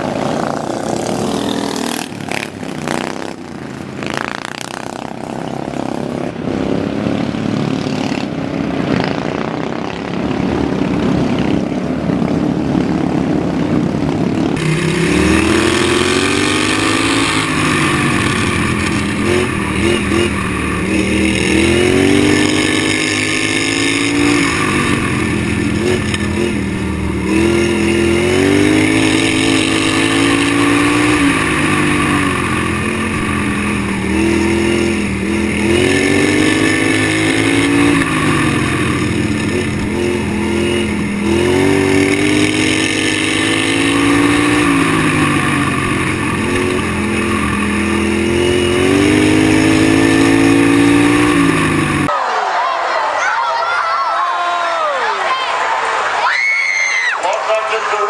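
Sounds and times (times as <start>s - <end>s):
lawn mower engine revving: 0.0s - 52.1s.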